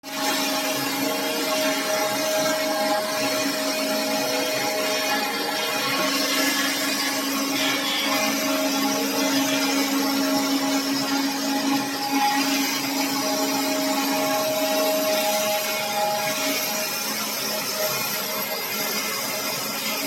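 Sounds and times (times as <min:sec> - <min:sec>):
cnc machine motors whining: 0:00.1 - 0:20.0.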